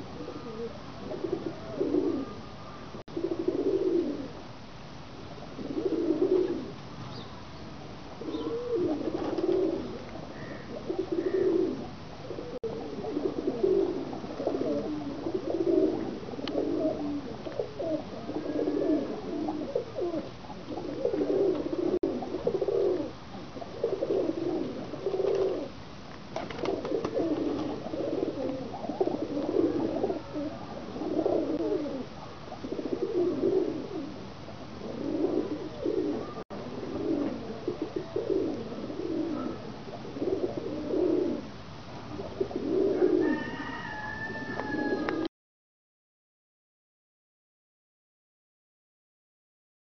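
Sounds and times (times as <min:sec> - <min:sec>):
pigeons cooing: 0:00.0 - 0:04.4, 0:05.5 - 0:07.2, 0:08.2 - 0:25.8, 0:26.4 - 0:45.3.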